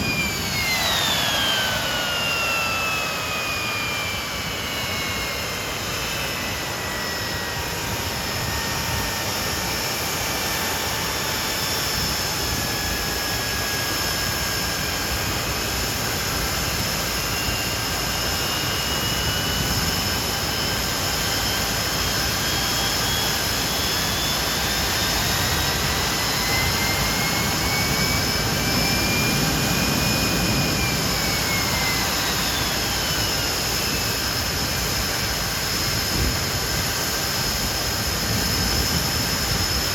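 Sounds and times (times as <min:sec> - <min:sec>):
jet engines roaring: 0:00.0 - 0:39.9
whining tones gliding in pitch: 0:00.0 - 0:39.9.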